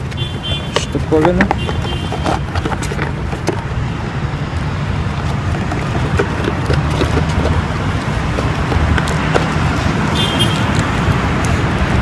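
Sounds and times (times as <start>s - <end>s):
traffic rumble and hiss: 0.0s - 12.0s.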